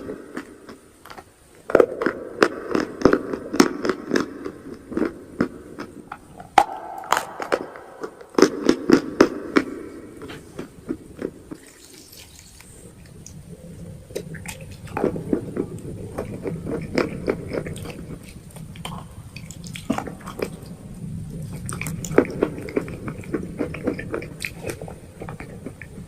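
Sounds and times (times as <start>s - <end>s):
crunchy chewing: 0.0s - 26.0s
wet mouth sounds: 0.4s - 26.0s.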